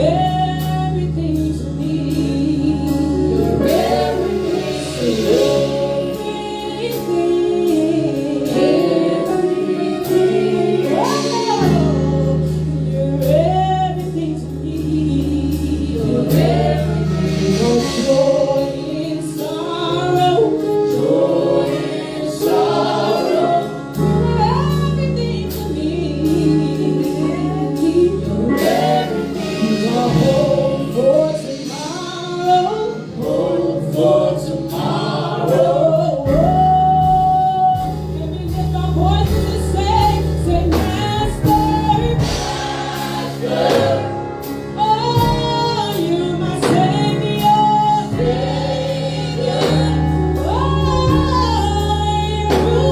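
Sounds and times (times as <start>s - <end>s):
bass: 0.0s - 52.9s
gospel choir singing: 0.0s - 52.9s
sustained keyboard chords: 0.0s - 52.9s.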